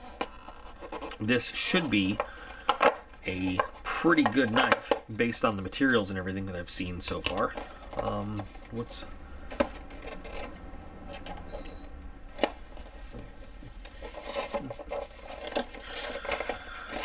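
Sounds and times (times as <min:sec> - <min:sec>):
plastic rubbing and scraping: 0:00.0 - 0:05.1, 0:07.0 - 0:11.4, 0:12.3 - 0:17.0.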